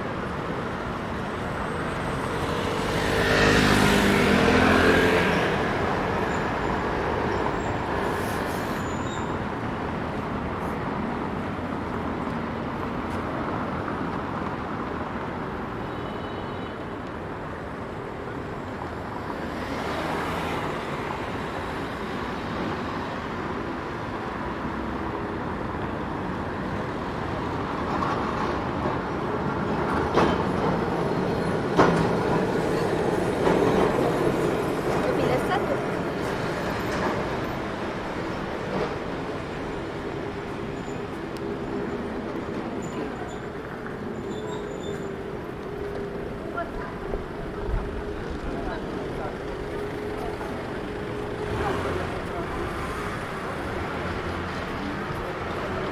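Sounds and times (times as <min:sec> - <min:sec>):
street traffic: 0:00.0 - 0:55.9.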